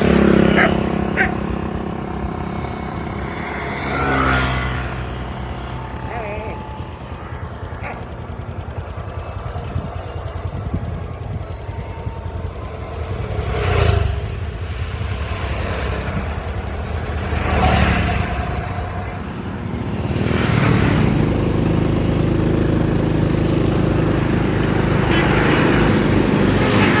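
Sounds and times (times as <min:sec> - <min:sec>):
engine running close by: 0:00.0 - 0:27.0
vehicles passing by: 0:00.0 - 0:27.0.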